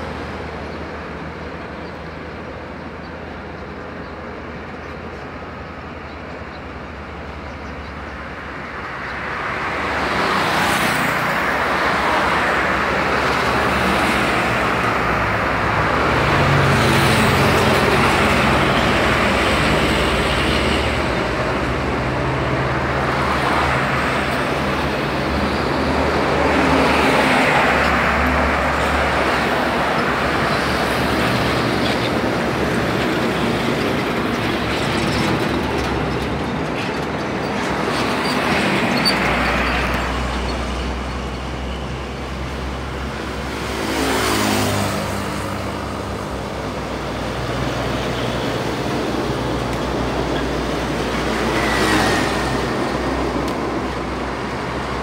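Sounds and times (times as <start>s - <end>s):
heavy trucks driving past: 6.7s - 55.0s.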